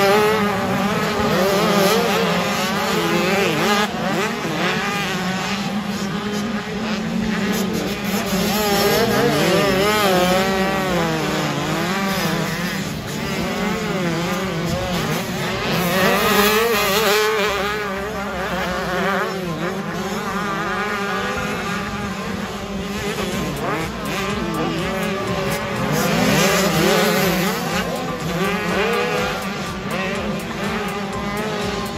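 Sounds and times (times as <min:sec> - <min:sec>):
motocross bikes revving: 0:00.0 - 0:31.9.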